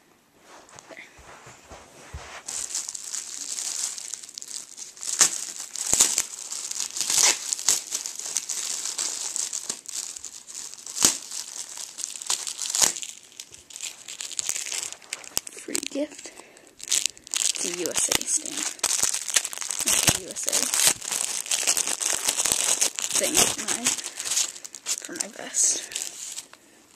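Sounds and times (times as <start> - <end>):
package wrapping crinkling: 1.7 - 26.9.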